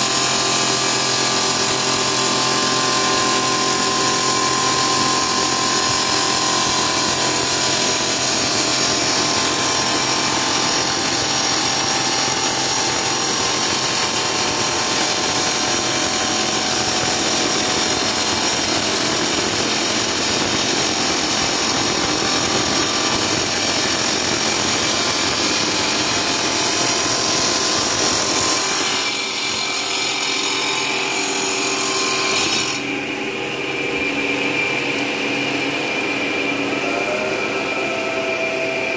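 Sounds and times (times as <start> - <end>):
cnc cutting machine running: 0.0 - 38.9.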